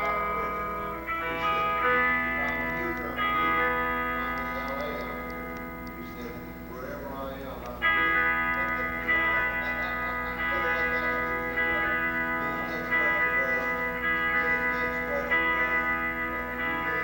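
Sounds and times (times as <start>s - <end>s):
amplified instrument chords: 0.0s - 17.0s.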